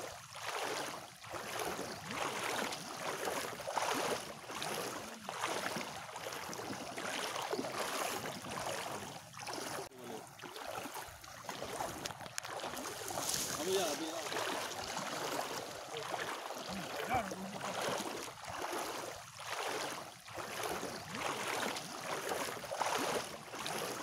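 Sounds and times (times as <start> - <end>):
feet sloshing in water: 0.0 - 24.0.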